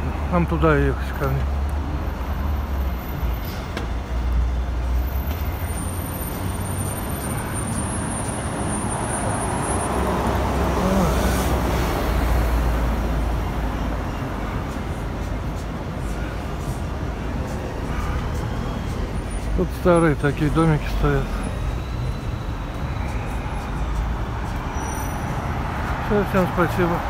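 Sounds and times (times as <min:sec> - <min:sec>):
rumble of passing cars and bus: 0:00.0 - 0:27.0.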